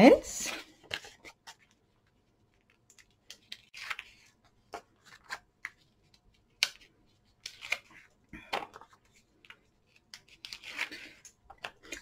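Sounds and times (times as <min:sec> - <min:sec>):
paper crinkling and ticking: 0:00.6 - 0:12.0.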